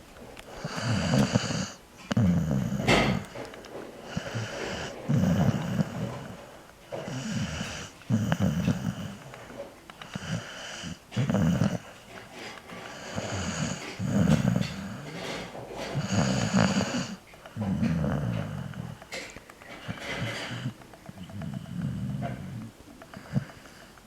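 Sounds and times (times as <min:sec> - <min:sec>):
dog snoring: 0:00.3 - 0:24.0
dog breathing quietly: 0:00.4 - 0:24.0.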